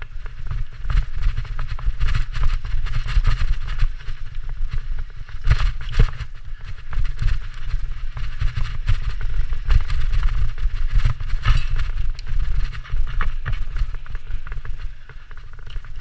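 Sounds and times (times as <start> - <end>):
bike rattling and clicking: 0.0 - 16.0
bike tyres rolling over dirt: 0.0 - 16.0.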